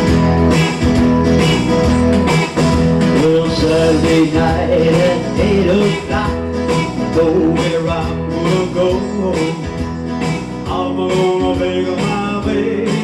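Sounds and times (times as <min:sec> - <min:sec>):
bass line: 0:00.0 - 0:13.0
electric guitar: 0:00.0 - 0:13.0
steady drum beat: 0:00.0 - 0:13.0.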